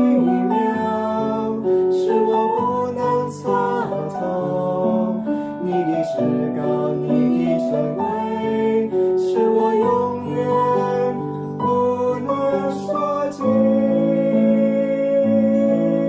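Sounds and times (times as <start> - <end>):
keyboard accompaniment: 0.0 - 16.0
man and woman singing worship song: 0.0 - 16.0.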